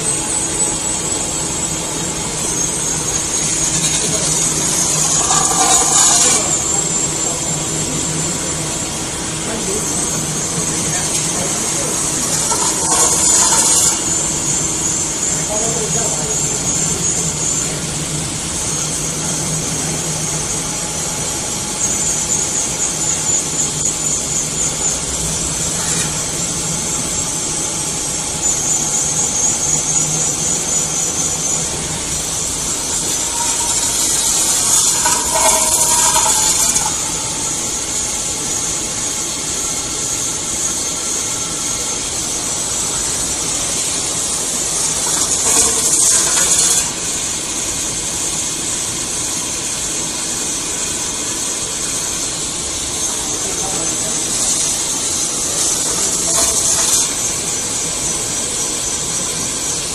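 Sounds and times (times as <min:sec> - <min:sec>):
machine squealing: 0:00.0 - 0:47.2, 0:52.8 - 0:59.8
metal spinning machine running: 0:00.0 - 0:59.9.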